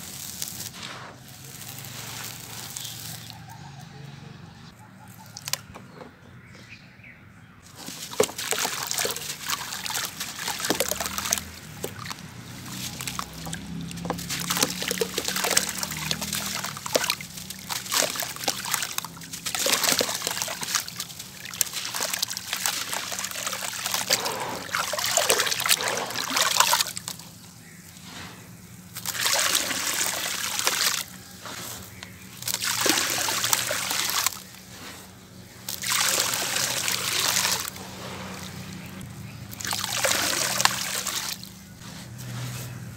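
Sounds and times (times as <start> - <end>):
crumbs crunching and pouring: 0.0 - 3.4, 7.7 - 42.9
wet splashing: 7.7 - 42.9.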